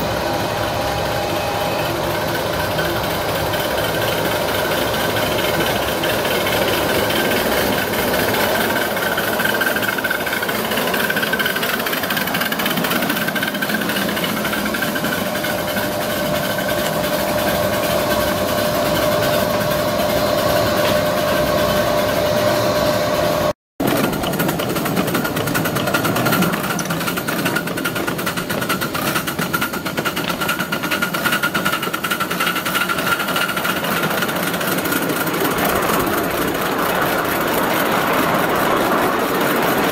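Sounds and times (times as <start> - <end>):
steam locomotive chuffing: 0.0 - 39.9.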